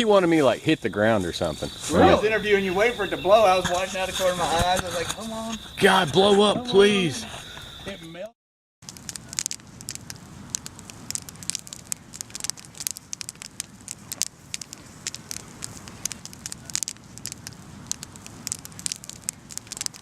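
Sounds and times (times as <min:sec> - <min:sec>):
campfire crackling and popping: 0:01.3 - 0:08.0, 0:08.8 - 0:20.0.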